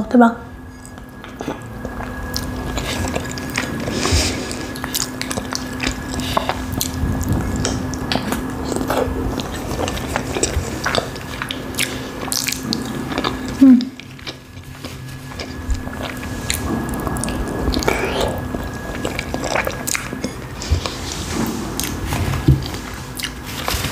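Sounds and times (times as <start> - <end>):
faint steady hum: 0.0 - 23.9
person chewing food: 0.7 - 23.9.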